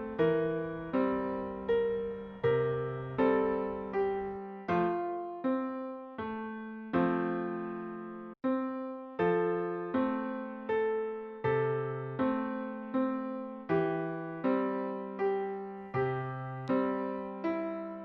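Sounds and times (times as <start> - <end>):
electric piano chords: 0.0 - 18.0.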